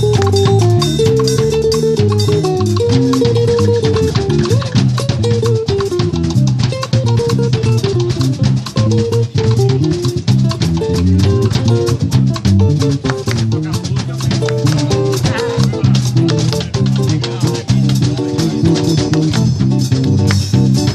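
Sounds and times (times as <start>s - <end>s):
bass line: 0.0s - 20.9s
drum kits playing: 0.0s - 20.9s.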